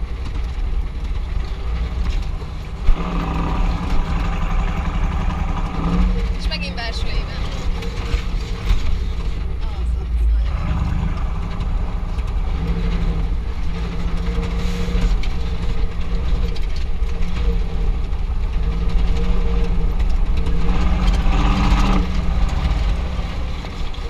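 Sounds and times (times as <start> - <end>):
small knocks and rattles: 0.0 - 9.7, 11.0 - 24.0
truck engine drone from cab: 0.0 - 24.0.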